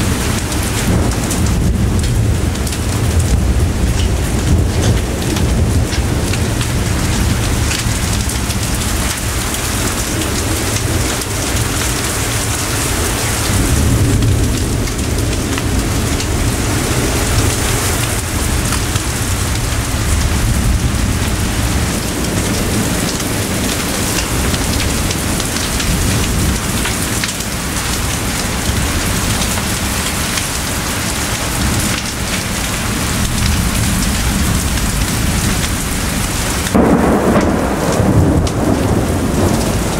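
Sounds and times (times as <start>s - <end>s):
thunder rumble: 0.0s - 30.4s, 31.5s - 39.9s
heavy rain: 0.0s - 39.9s.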